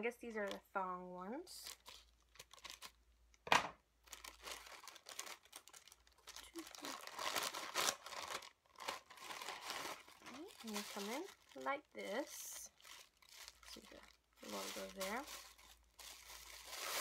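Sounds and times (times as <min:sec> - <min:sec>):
packaging crinkling: 0:01.6 - 0:03.0, 0:04.0 - 0:17.0.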